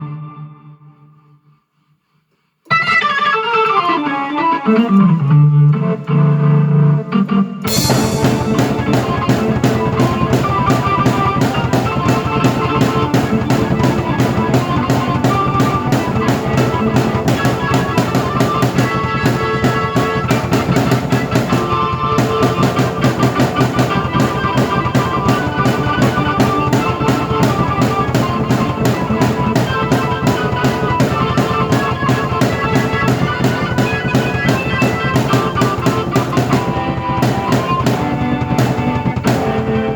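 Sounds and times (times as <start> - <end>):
rock band drums and keyboard: 7.6 - 39.9.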